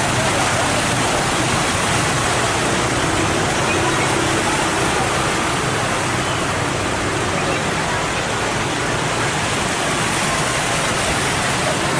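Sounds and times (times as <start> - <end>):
heavy rain falling: 0.0 - 11.9.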